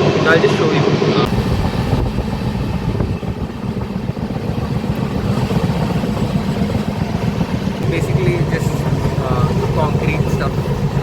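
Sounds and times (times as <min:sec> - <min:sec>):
train rumbling inside coach: 0:01.2 - 0:11.0.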